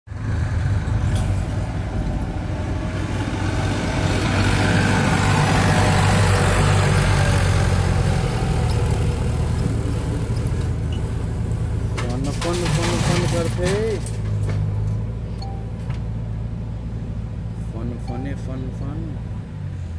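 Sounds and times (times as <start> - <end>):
backhoe loader engine running: 0.1 - 17.6
tractor driving past: 0.1 - 17.6.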